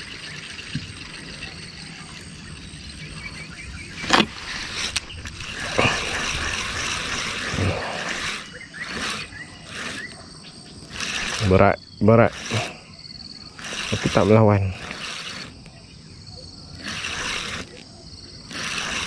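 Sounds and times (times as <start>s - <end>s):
fishing reel clicks: 0.0s - 15.8s, 16.7s - 19.0s
fishing reel whirring: 0.0s - 19.0s.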